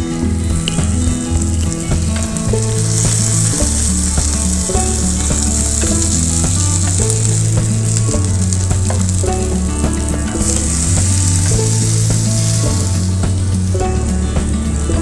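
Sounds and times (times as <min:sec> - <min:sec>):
low background music: 0:00.0 - 0:15.0
burger patties sizzling in oil: 0:00.3 - 0:14.2.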